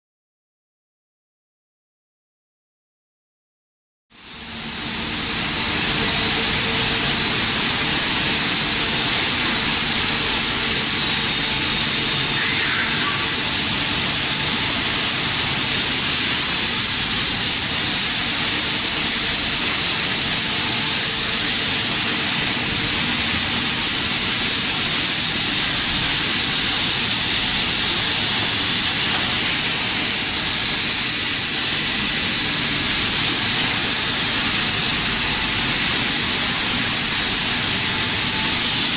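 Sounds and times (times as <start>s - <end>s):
high even whine: 4.1s - 38.9s
steady machine noise: 4.1s - 38.9s.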